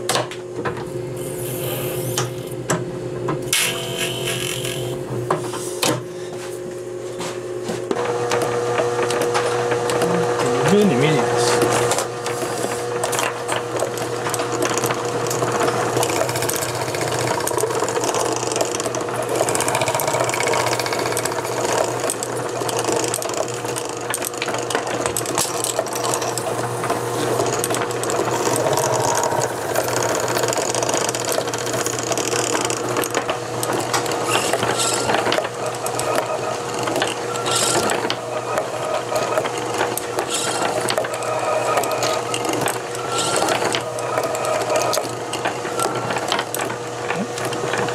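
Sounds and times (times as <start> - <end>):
lathe humming: 1.0 - 2.7, 3.4 - 5.4, 8.0 - 47.9.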